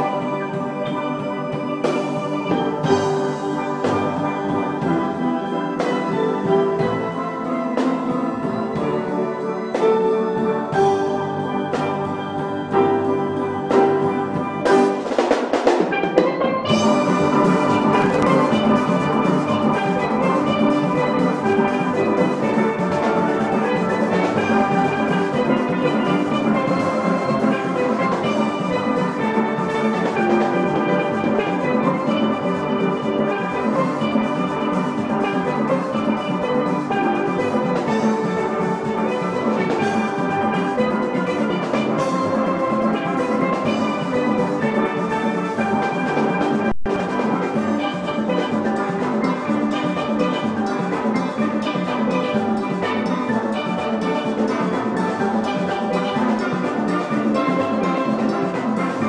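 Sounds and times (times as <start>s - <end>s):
steel pans playing: 0.0s - 59.0s
drum beat: 1.2s - 59.0s.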